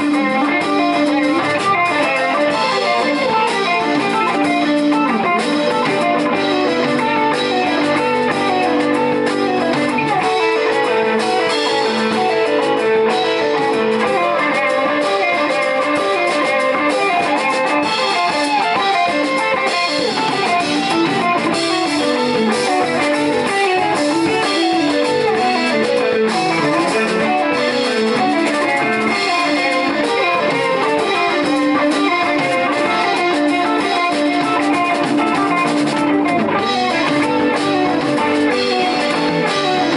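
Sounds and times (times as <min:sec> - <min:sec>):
electric bass guitar: 0:00.0 - 0:39.9
electric guitars: 0:00.0 - 0:39.9.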